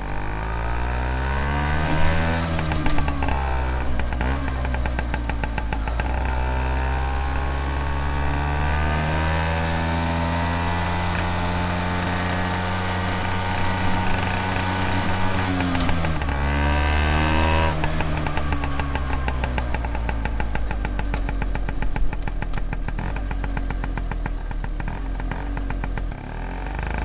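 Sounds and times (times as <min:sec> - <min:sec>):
scooter engine and exhaust: 0:00.0 - 0:27.0.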